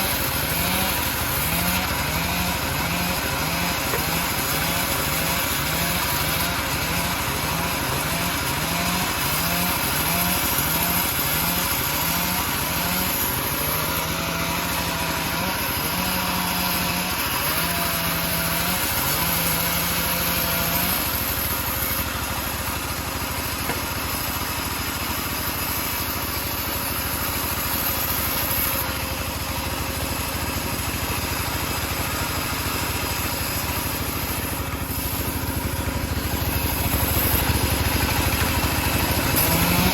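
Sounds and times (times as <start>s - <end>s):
bandsaw sawing wood: 0.0s - 39.9s
sawmill engine running: 0.0s - 39.9s.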